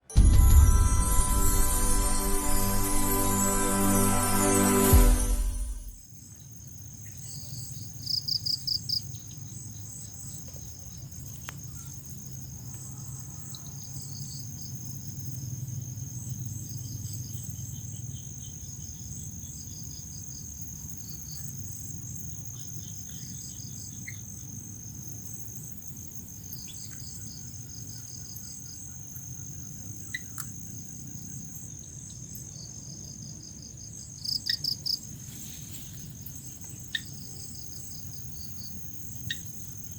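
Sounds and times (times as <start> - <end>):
cricket chirping in short bursts: 5.9 - 39.9
cricket trilling steadily: 6.0 - 39.9.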